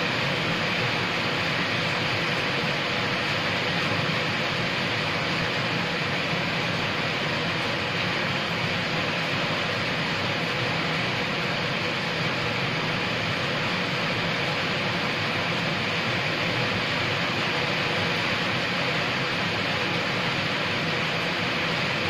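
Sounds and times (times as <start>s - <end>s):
rain on paving and plants: 0.0s - 22.0s.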